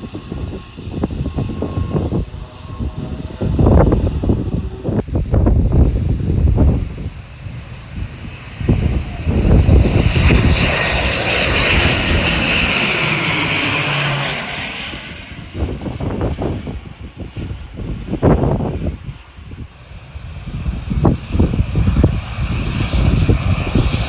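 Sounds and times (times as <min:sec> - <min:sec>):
airliner engines whining: 0:00.0 - 0:24.0
wind buffeting microphone: 0:00.0 - 0:24.0.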